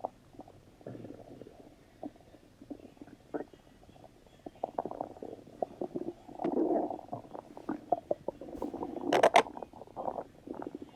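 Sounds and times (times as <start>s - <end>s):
stomach rumbling: 0.0s - 10.9s.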